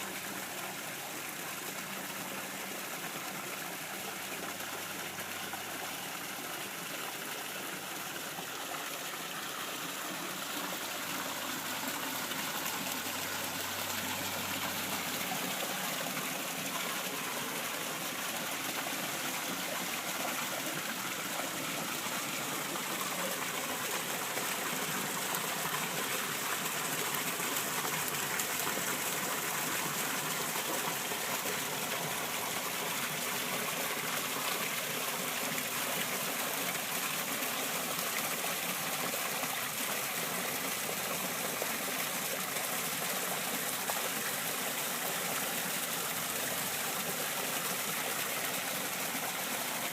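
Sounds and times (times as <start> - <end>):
waterfall pouring and splashing: 0.0 - 49.9.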